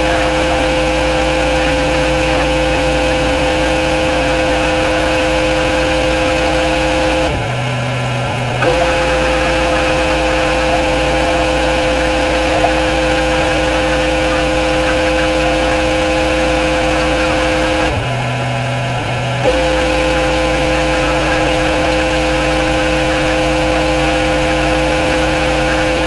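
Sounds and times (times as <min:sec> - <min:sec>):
pressure washer humming: 0:00.0 - 0:26.0.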